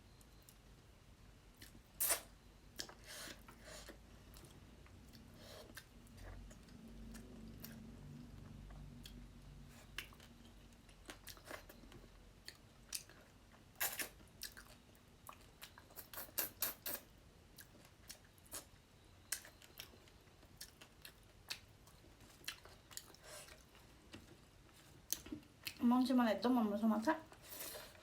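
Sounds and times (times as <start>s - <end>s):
person chewing with wet clicks: 1.5s - 25.8s.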